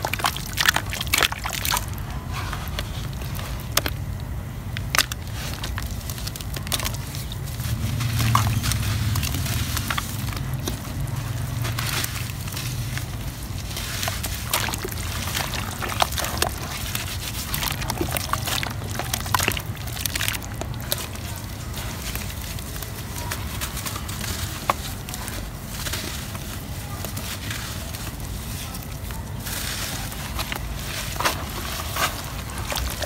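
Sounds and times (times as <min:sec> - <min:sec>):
clods crackling apart: 0:00.0 - 0:33.0
steady low rumble: 0:00.0 - 0:33.0
wet soil squelching: 0:00.0 - 0:33.0.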